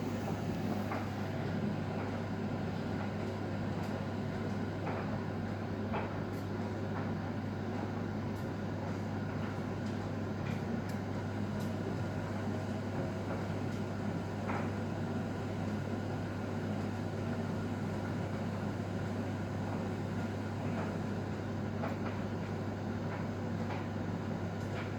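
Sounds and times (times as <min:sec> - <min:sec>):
washing machine running: 0:00.0 - 0:24.9.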